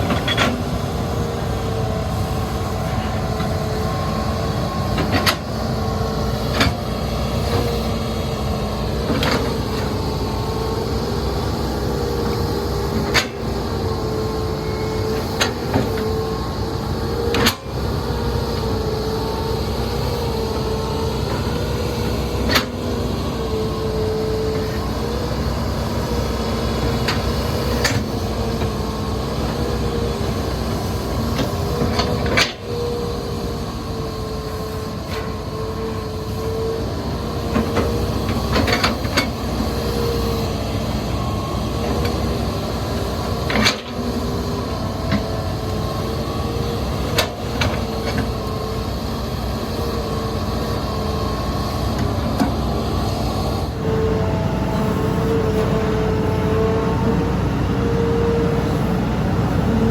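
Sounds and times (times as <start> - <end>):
excavator diesel engine whining: 0.0 - 59.9.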